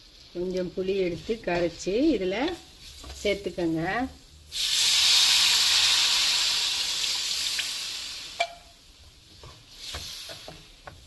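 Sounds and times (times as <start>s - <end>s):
liquid sizzling in hot oil: 0.0s - 11.0s.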